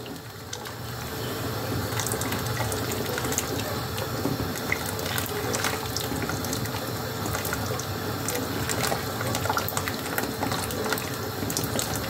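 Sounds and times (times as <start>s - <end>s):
liquid bubbling with small pops: 1.7s - 12.0s.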